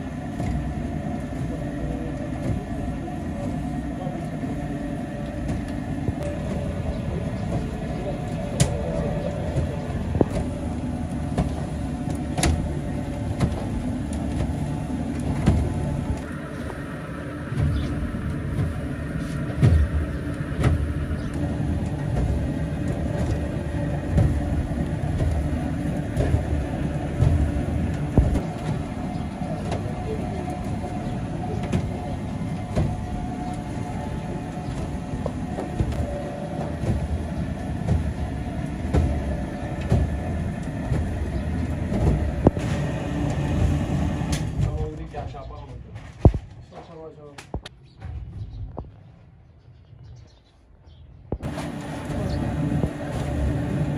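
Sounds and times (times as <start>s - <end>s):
drum sieve rumbling and rattling: 0.0s - 49.4s, 51.2s - 53.9s.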